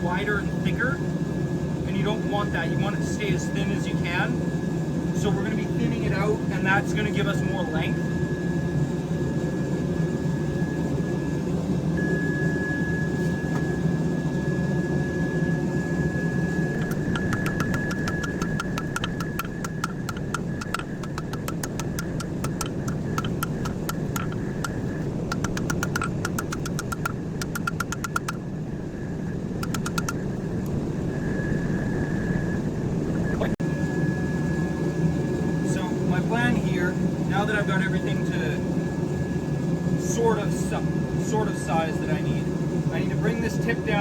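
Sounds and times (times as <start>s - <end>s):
low machine roar with whine: 0.0s - 44.0s.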